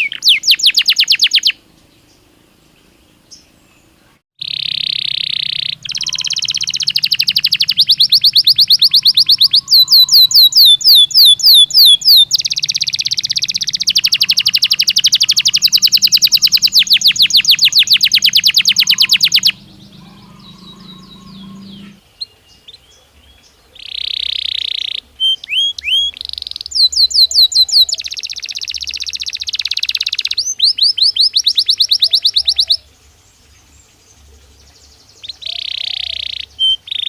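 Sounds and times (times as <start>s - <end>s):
canary singing: 0.0s - 2.2s, 3.3s - 32.9s, 34.6s - 37.0s.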